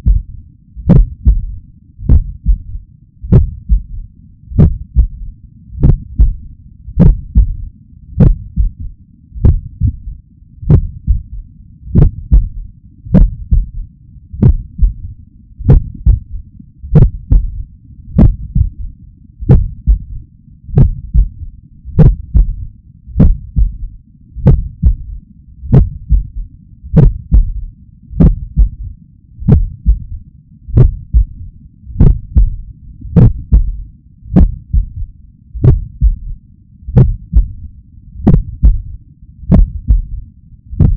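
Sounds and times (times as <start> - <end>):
heartbeat through stethoscope: 0.0 - 40.9.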